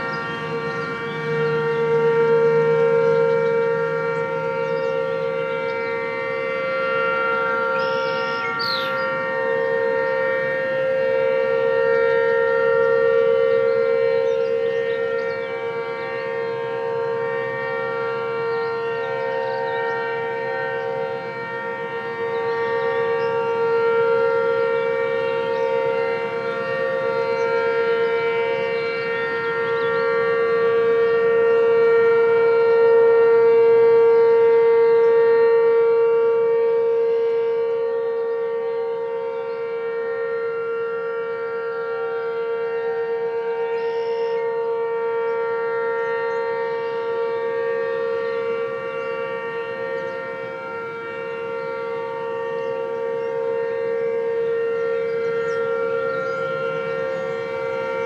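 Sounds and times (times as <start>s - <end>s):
warning sirens wailing: 0.0s - 58.0s.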